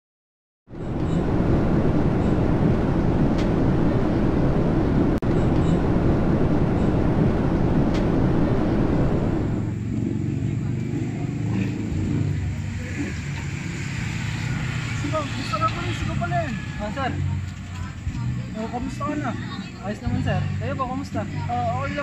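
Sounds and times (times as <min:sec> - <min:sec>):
airliner cabin engine drone: 0:00.7 - 0:19.6.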